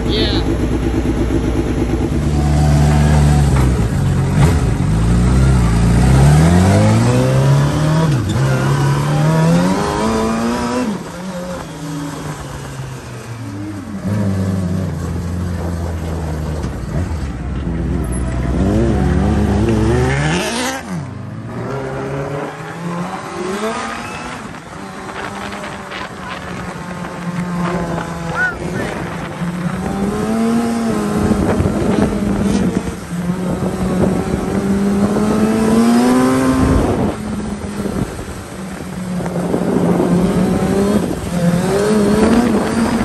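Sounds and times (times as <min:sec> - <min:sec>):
motorcycle engine revving and shifting: 0:00.0 - 0:43.0.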